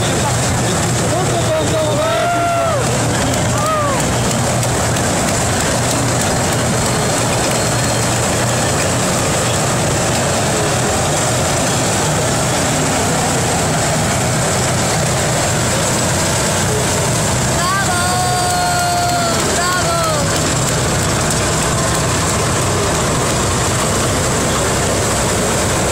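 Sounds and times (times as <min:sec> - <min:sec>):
tank engines and tracks rumbling: 0:00.0 - 0:25.9.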